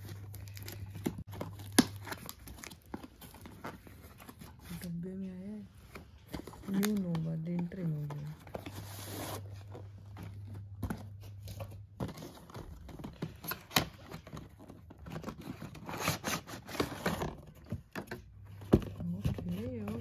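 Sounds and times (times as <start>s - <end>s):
cardboard rustling and scraping: 0.0s - 20.0s.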